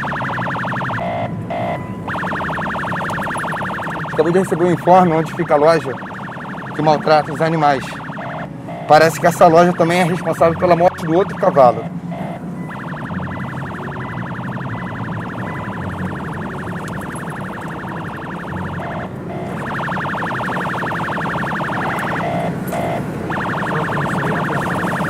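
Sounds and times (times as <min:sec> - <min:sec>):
moving vehicle hum: 0:00.0 - 0:25.0
siren warbling: 0:00.0 - 0:25.0.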